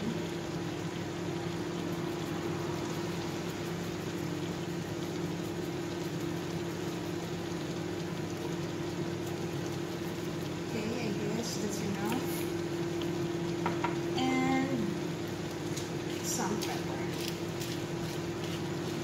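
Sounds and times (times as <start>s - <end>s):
food bubbling and sizzling in a wok: 0.0s - 19.0s.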